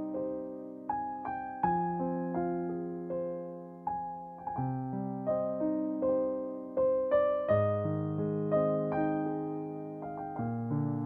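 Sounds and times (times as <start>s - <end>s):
piano playing chords and melody: 0.0s - 11.0s.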